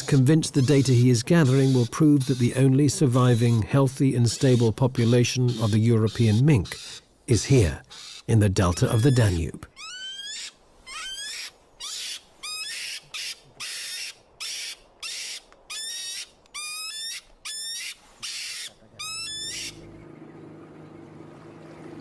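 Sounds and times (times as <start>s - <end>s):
mink screeching and hissing: 0.0s - 7.0s, 7.9s - 19.8s.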